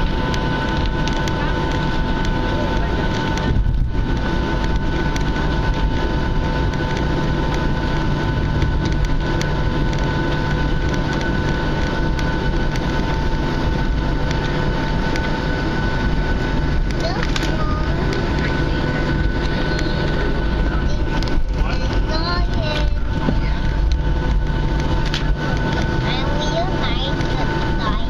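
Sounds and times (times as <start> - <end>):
jet engine rumble in cabin: 0.0 - 28.0
jet engine whine: 0.0 - 28.0.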